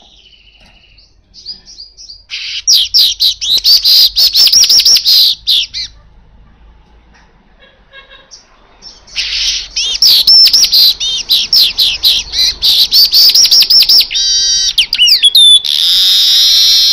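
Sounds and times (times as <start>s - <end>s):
bird singing chirps and trills: 0.0s - 6.0s, 8.3s - 16.9s.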